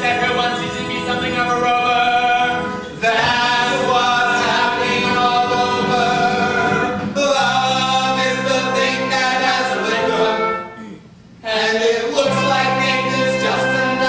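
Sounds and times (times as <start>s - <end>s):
men singing in harmony: 0.0s - 10.7s, 11.4s - 14.0s.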